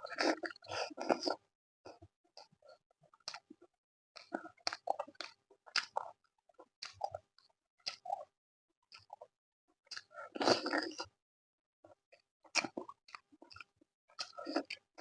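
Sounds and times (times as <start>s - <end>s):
chewing food: 0.0s - 8.3s, 8.9s - 11.2s, 12.1s - 15.0s.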